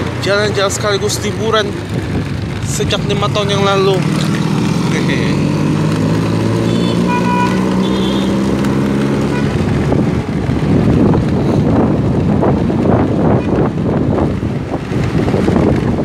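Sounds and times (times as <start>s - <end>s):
motorcycle engine hum: 0.0s - 16.0s
wind buffeting microphone: 0.0s - 16.0s.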